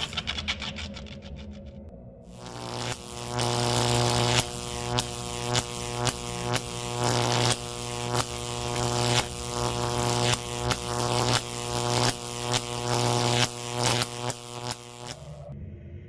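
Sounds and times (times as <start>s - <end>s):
harsh crackling electric buzz: 2.3s - 15.6s
steady electrical hum: 2.3s - 15.6s.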